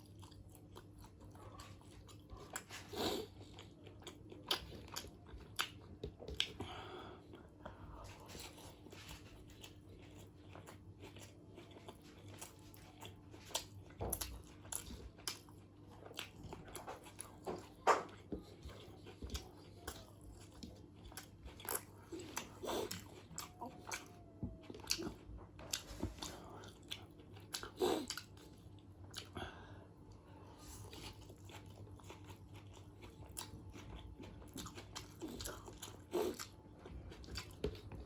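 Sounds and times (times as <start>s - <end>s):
close-miked chewing: 0.0s - 38.0s
faint low hum: 0.0s - 38.0s.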